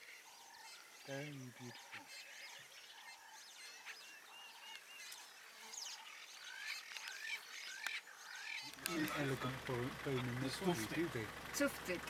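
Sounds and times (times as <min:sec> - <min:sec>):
birds chirping and whistling: 0:00.0 - 0:11.1.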